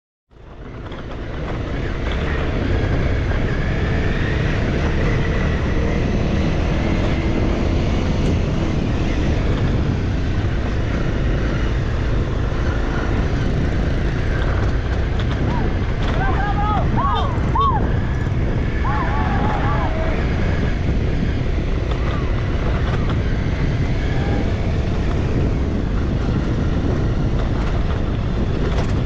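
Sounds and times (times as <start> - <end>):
dirt bike engine running: 0.3 - 29.0
wind and road noise: 0.3 - 29.0.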